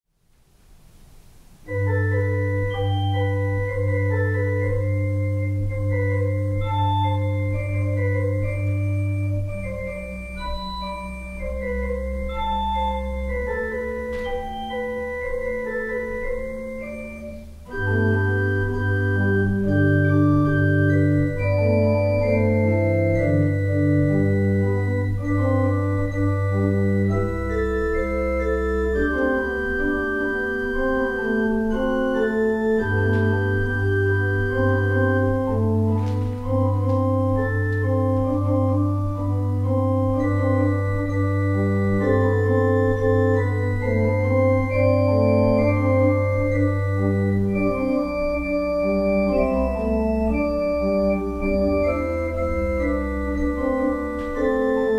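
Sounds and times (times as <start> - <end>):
organ playing chords: 1.6 - 54.9.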